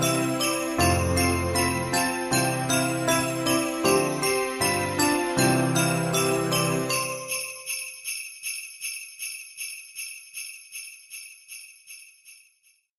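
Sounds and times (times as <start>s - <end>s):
christmas background music: 0.0s - 12.9s
sleigh bells shaking: 0.0s - 12.9s.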